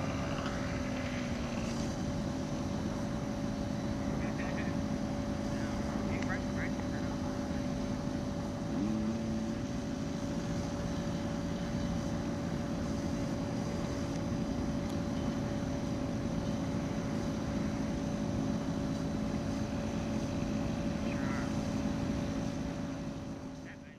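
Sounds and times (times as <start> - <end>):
model plane engine idling: 0.0 - 23.9.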